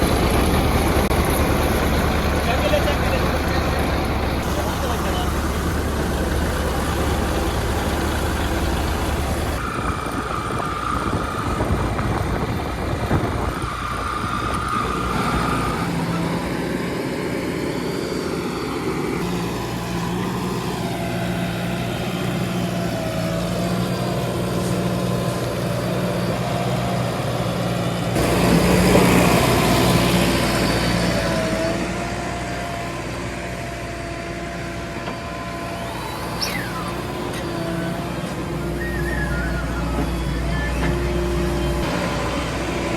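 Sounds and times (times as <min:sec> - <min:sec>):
backhoe diesel engine working: 0:00.0 - 0:42.9.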